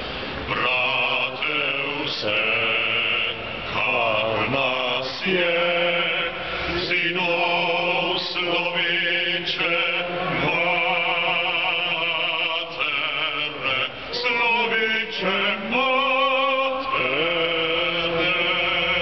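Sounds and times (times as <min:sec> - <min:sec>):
voices singing slowly: 0:00.1 - 0:19.0.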